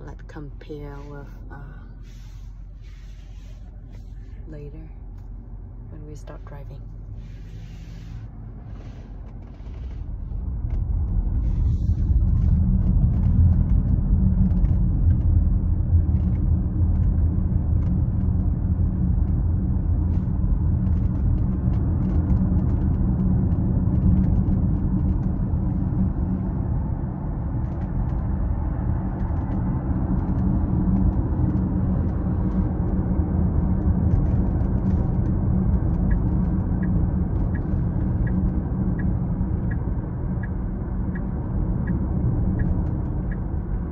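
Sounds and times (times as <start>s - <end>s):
tyre and road rumble: 0.0s - 43.9s.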